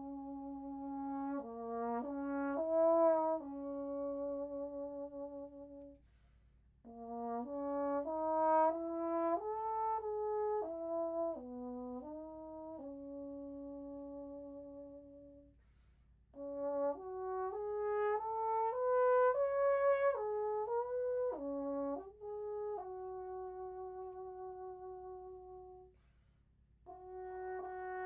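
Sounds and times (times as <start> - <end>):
solo trombone melody: 0.0 - 6.1, 6.8 - 15.6, 16.3 - 26.2, 26.8 - 28.0.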